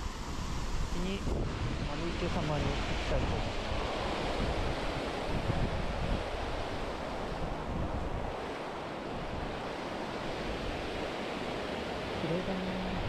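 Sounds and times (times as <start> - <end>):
steady rushing hiss: 0.0 - 13.0
wind buffeting microphone: 0.0 - 13.0.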